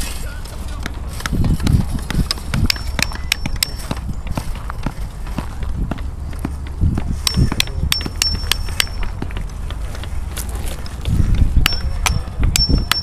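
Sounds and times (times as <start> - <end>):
hand tools tapping pavers: 0.0 - 13.0
steady low rumble: 0.0 - 13.0.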